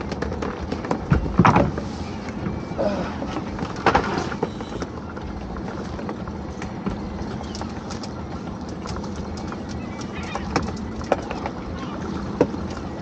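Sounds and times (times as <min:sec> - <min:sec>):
steady rushing background: 0:00.0 - 0:13.0.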